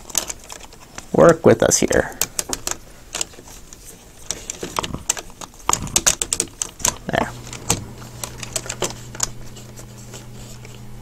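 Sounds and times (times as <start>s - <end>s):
plastic toy joints clicking: 0.0s - 9.3s.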